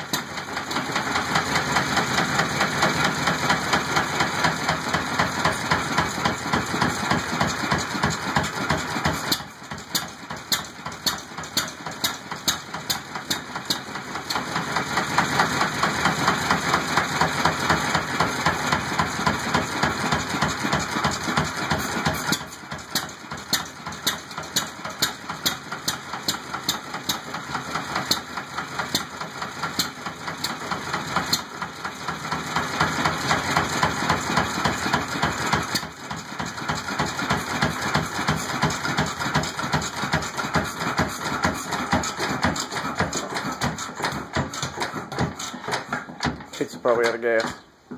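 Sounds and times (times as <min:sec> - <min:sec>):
hit-and-miss engine running: 0:00.0 - 0:47.9.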